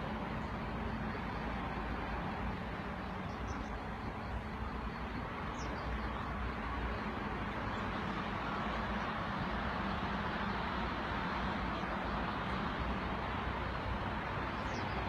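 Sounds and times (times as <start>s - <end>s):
flooded river rushing: 0.0s - 15.0s.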